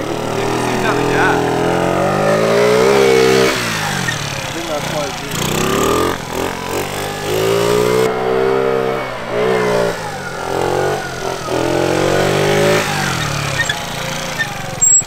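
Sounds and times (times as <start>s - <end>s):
scooter engine revving: 0.0s - 15.0s.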